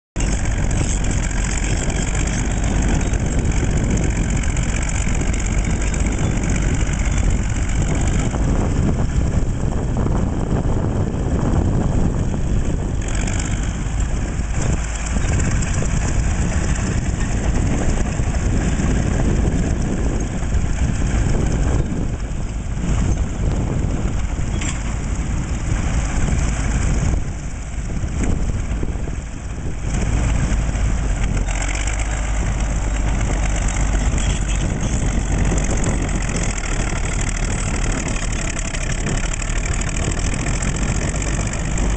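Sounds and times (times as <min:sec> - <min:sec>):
bulldozer diesel engine running: 0:00.2 - 0:41.9.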